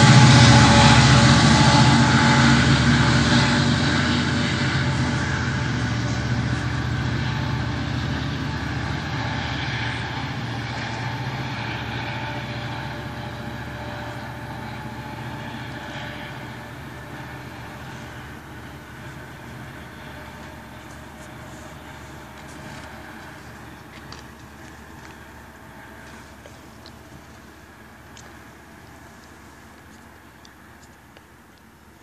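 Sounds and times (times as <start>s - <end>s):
diesel locomotive engine drone: 0.0s - 32.0s
train rolling on rails: 0.0s - 32.0s.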